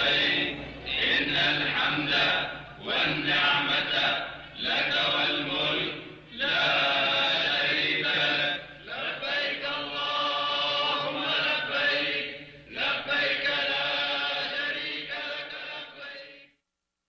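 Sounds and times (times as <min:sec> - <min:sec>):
voices chanting: 0:00.0 - 0:16.3.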